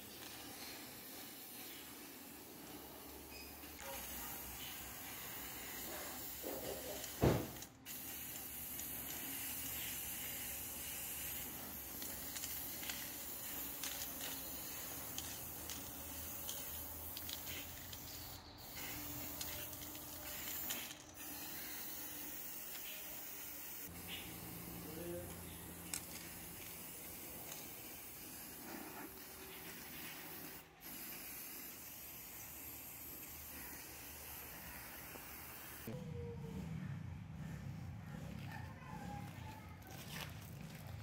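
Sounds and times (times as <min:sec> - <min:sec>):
spray paint can hissing: 0:00.0 - 0:35.9.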